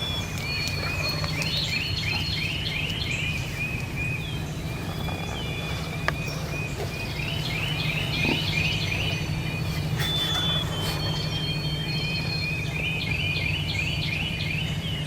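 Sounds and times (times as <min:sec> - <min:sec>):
low steady rumble: 0:00.0 - 0:15.0
songbirds whistling: 0:00.0 - 0:15.0.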